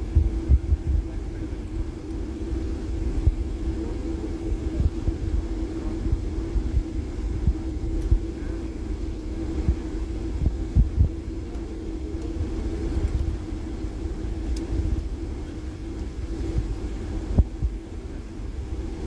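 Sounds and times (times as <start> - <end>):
airliner engine hum: 0.0 - 19.0.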